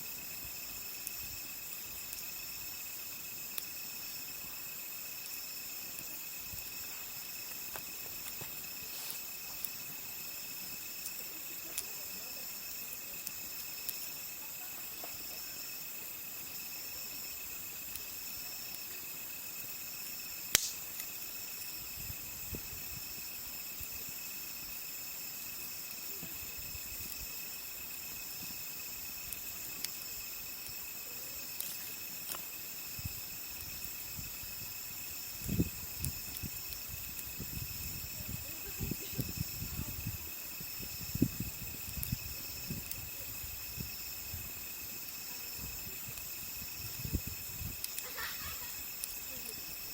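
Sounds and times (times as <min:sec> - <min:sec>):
campfire crackling and popping: 0:00.0 - 0:49.9
crickets trilling: 0:00.0 - 0:49.9.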